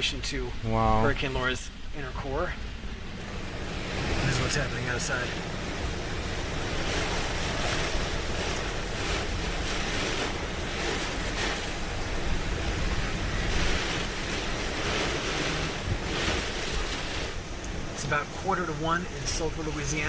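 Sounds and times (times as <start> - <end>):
hurricane winds rushing: 0.0 - 20.0
wind buffeting microphone: 0.0 - 20.0.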